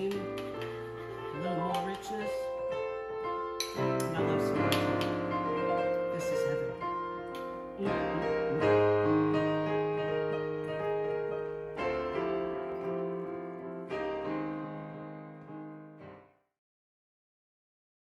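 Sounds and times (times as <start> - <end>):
gentle piano chords: 0.0 - 16.4.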